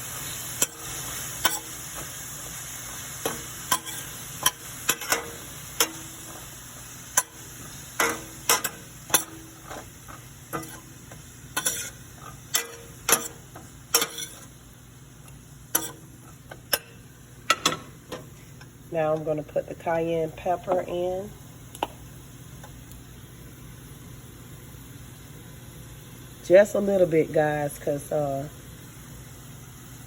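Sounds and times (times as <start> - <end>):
vegetables sizzling in a pan: 0.0 - 30.0.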